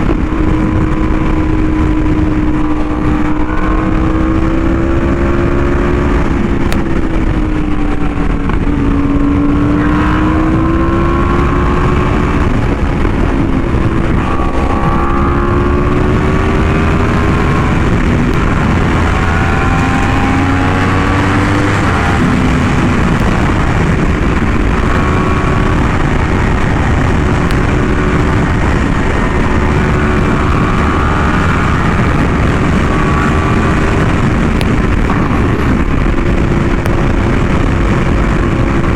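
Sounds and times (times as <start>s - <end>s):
low rumble of wind noise: 0.0s - 38.9s
motorcycle engine: 0.0s - 38.9s.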